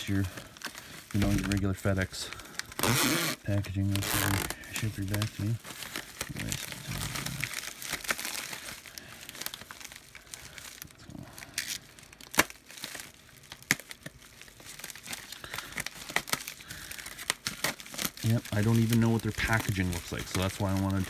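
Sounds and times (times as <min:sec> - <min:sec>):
package crinkling and tearing: 0:00.0 - 0:21.0.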